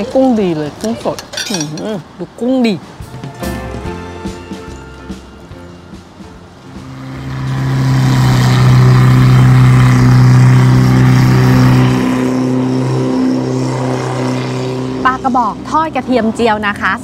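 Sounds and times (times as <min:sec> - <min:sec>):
boat engine passing: 0:02.8 - 0:17.0.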